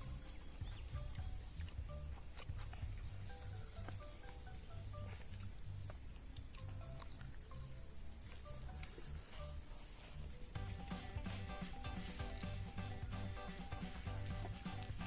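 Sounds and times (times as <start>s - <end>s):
crickets chirring: 0.0s - 15.0s
faint melodic notes: 0.0s - 15.0s.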